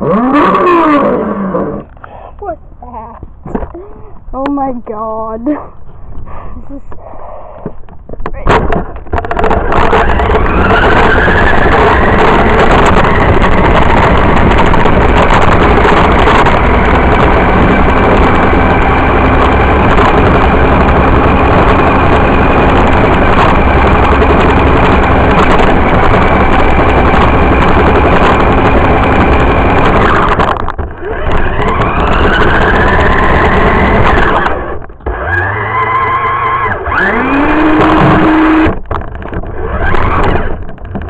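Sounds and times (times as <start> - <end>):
rc car motor whine: 0.0 - 2.0, 9.1 - 41.0
wheels rumbling on concrete: 0.0 - 41.0.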